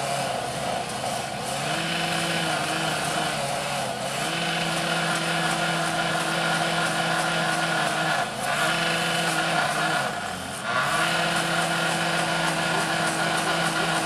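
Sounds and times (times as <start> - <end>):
machinery engine hum: 0.0 - 14.0.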